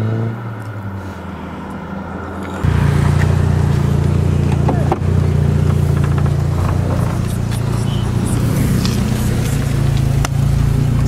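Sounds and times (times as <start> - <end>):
car engine idling: 1.4 - 11.0.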